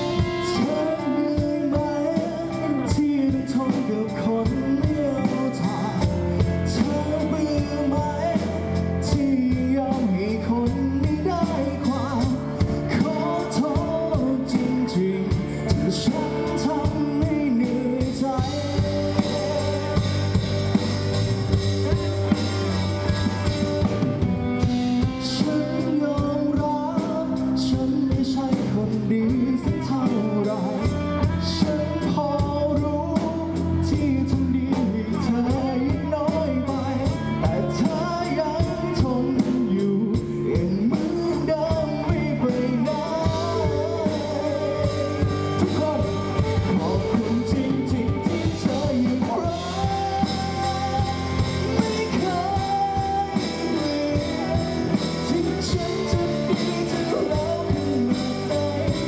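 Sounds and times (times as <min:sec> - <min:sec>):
man singing into microphone: 0:00.0 - 0:21.2, 0:24.6 - 0:59.0
drum kit: 0:00.0 - 0:59.0
electric bass guitar: 0:00.0 - 0:59.0.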